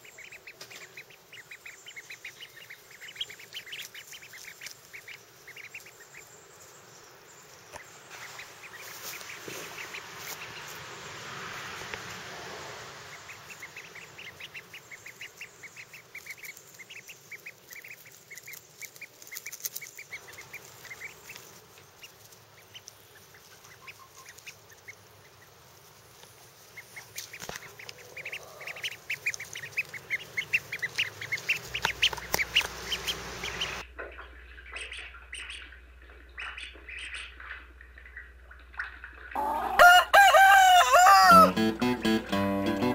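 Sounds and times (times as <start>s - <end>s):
ducklings peeping: 0.0s - 42.9s.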